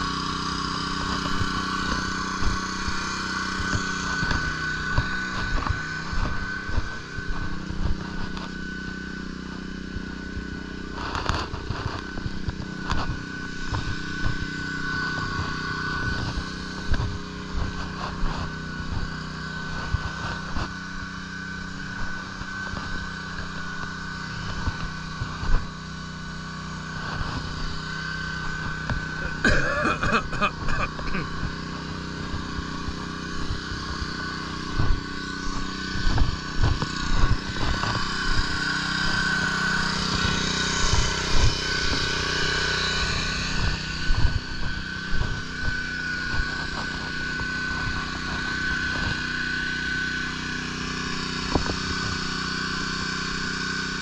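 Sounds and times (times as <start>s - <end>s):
high whine: 0.0s - 54.0s
small petrol engine running: 0.0s - 54.0s.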